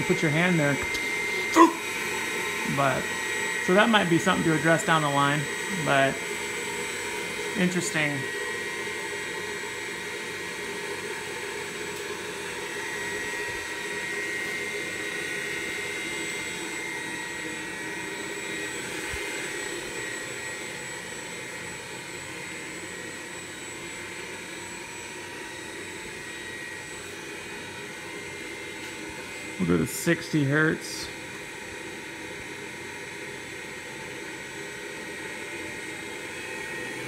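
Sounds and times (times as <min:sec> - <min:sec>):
cooling fan rushing: 0:00.0 - 0:37.0
motor whine: 0:00.0 - 0:37.0.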